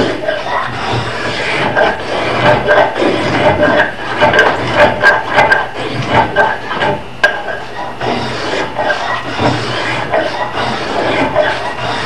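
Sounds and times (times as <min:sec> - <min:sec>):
spokeshave scraping wood: 0:00.0 - 0:12.0.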